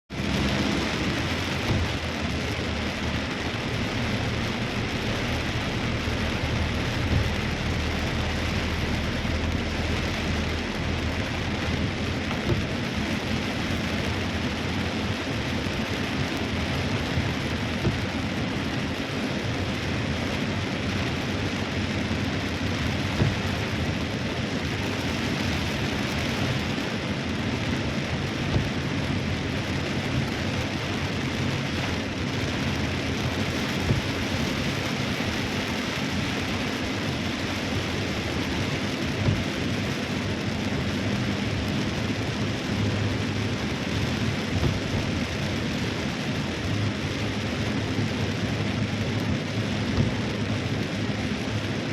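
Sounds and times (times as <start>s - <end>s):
raindrop tapping a surface: 0.1s - 19.0s, 21.8s - 23.9s, 28.3s - 29.0s, 29.9s - 51.1s
heavy rain pouring: 0.1s - 51.9s.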